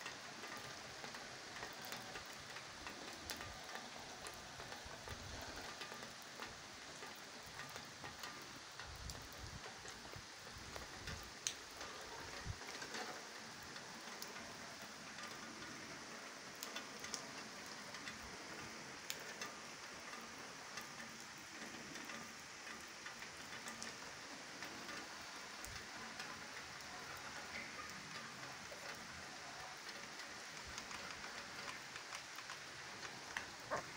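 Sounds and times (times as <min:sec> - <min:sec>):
rain on paving: 0:00.0 - 0:33.9
raindrop ticks: 0:00.0 - 0:33.9.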